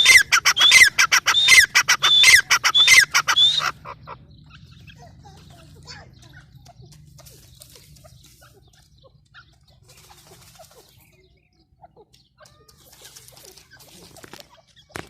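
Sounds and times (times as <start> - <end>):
francolins calling and chirping: 0.0 - 15.0.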